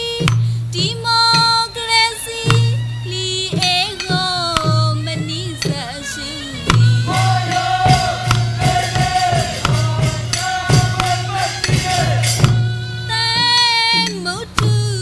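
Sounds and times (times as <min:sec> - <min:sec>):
woman singing: 0:00.0 - 0:11.0, 0:12.4 - 0:15.0
jingling percussion strikes: 0:00.0 - 0:14.8.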